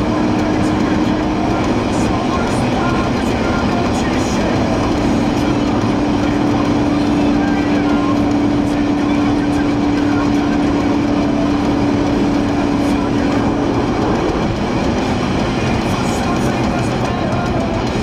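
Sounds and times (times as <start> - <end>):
car engine hum: 0.0 - 18.0
wind and tyre rush: 0.0 - 18.0.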